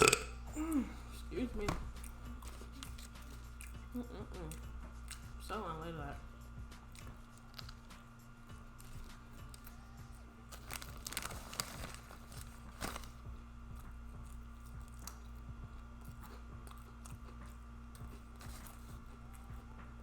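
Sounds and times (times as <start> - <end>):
soft chewing: 1.9 - 5.6, 6.6 - 20.0.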